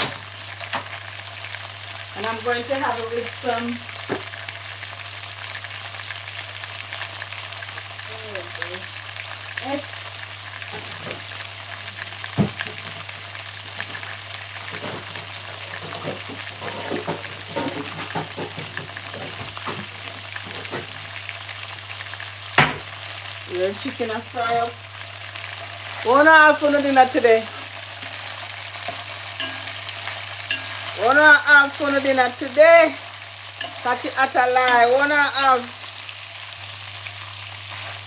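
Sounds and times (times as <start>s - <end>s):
chicken sizzling in a pot: 0.0s - 38.0s.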